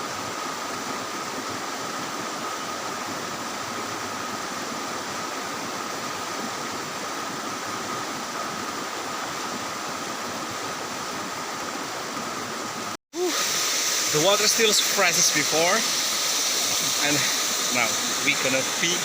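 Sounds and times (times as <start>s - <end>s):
rush of falling water: 0.0s - 19.0s.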